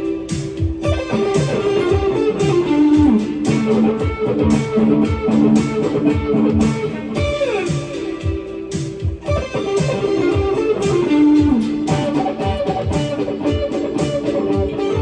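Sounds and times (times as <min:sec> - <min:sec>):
steady drum beat: 0:00.2 - 0:15.0
overdriven electric guitar lead: 0:00.8 - 0:15.0.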